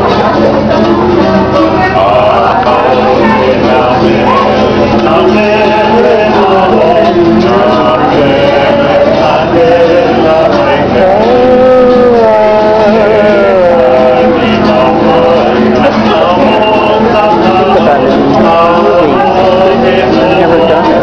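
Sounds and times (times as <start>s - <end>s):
men singing together: 0.0s - 21.0s
string instrument strummed: 0.0s - 21.0s.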